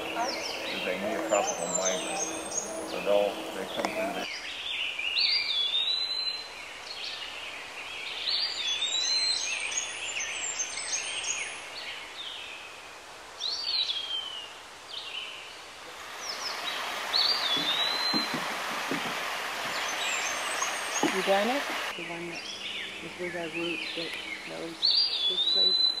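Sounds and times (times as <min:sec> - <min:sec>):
songbirds singing: 0:00.0 - 0:26.0
steady background hiss: 0:00.0 - 0:26.0.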